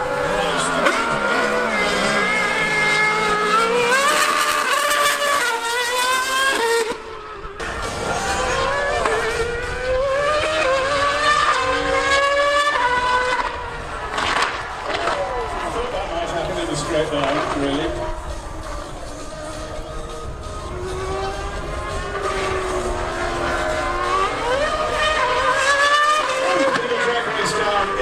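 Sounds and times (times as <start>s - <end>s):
racing car engine revving: 0.0s - 28.0s
superbike accelerating: 0.0s - 28.0s.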